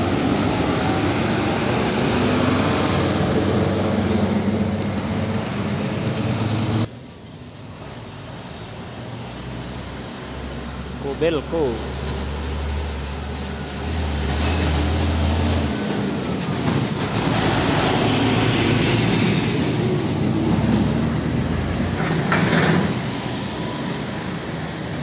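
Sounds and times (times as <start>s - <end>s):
truck diesel engine droning: 0.0s - 25.0s
tyres and trailer rumbling: 0.0s - 25.0s.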